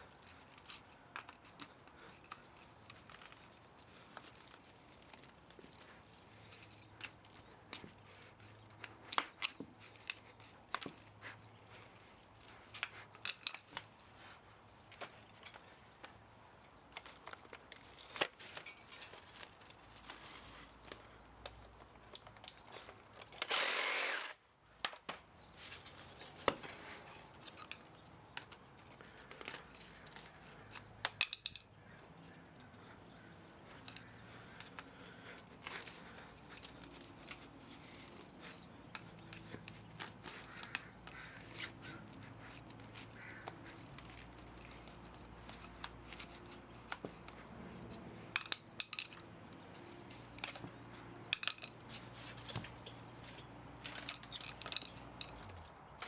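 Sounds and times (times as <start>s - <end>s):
hand tools clicking and tapping: 0.0s - 56.0s.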